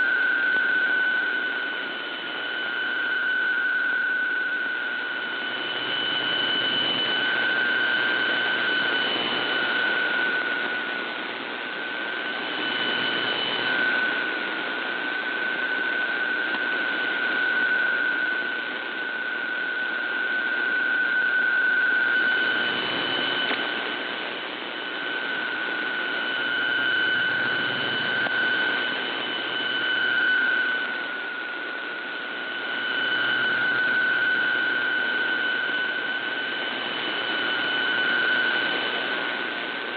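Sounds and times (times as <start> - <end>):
steady data tone: 0.0 - 39.9.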